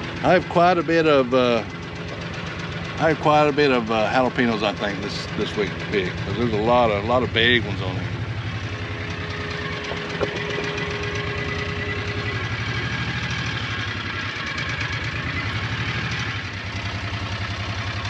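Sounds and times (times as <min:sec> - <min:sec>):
small vehicle engine puttering: 0:00.0 - 0:18.0.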